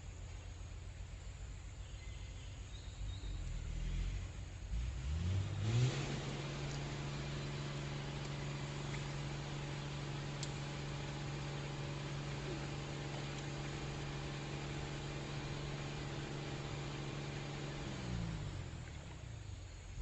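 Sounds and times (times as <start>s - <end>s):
engine revving: 3.2s - 20.0s.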